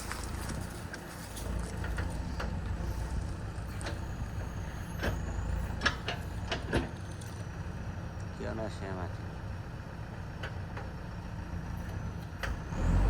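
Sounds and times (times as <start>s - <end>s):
diesel backhoe engine running: 0.0s - 13.0s.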